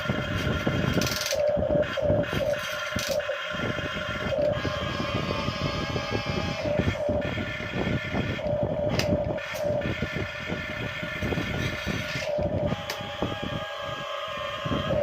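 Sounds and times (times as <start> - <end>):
toy electric motors whining: 0.0 - 15.0.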